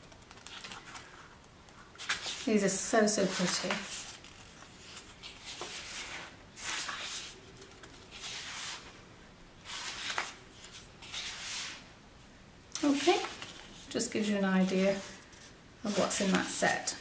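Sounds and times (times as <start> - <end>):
paper sheets rustling: 0.0 - 9.0, 9.6 - 11.9, 12.8 - 17.0.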